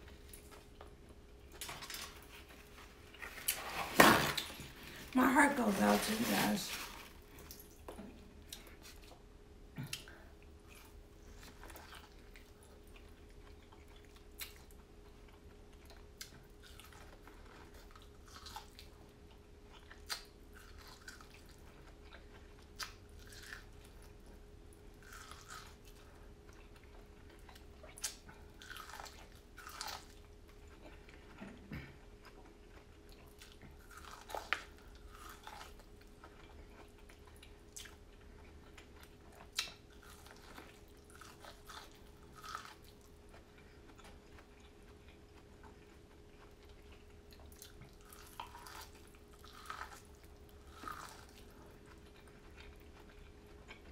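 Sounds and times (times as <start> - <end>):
person chewing and lip-smacking: 7.4 - 24.2, 25.0 - 53.9.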